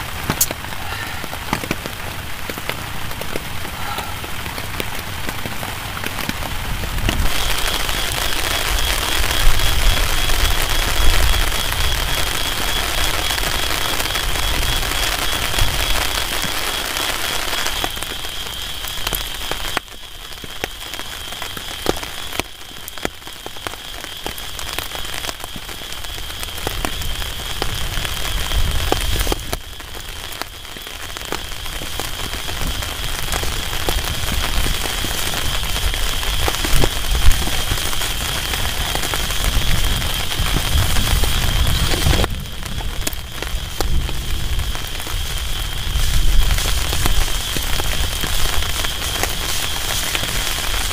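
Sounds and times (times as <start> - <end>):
heavy rain on a tarp: 0.0 - 50.9
raindrops ticking: 0.0 - 50.9.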